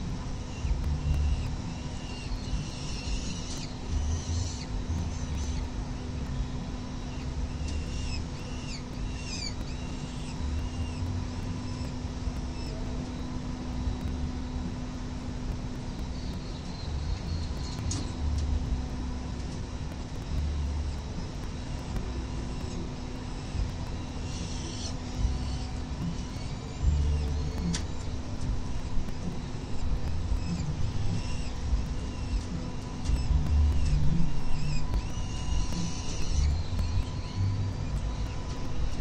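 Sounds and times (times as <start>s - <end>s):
city traffic rumble: 0.0s - 39.0s
low hum: 0.0s - 39.0s
wind: 0.0s - 39.0s.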